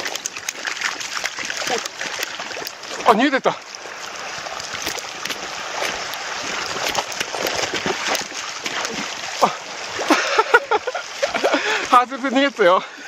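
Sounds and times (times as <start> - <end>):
fish thrashing in water: 0.0 - 13.0
river rushing over gravel: 0.0 - 13.0.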